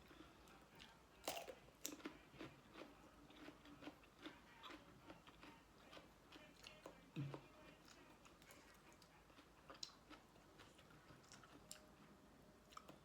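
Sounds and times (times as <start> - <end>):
person chewing: 0.0 - 11.8.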